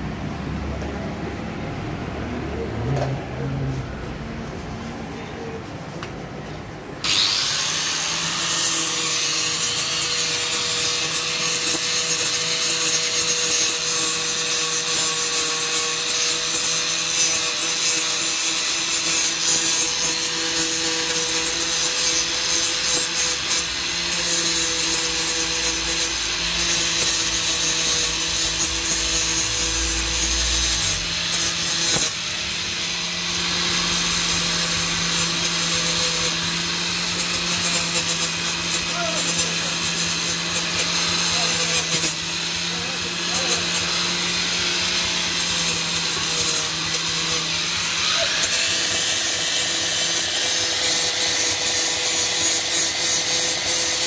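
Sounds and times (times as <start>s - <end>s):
power tool motor whine: 7.0s - 54.0s
rough scraping on steel: 7.1s - 54.0s.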